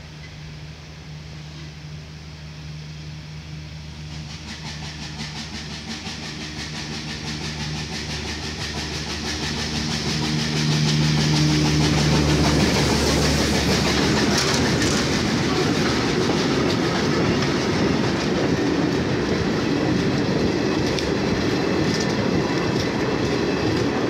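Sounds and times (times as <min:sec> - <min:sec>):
steam locomotive hauling train: 0:00.0 - 0:24.0.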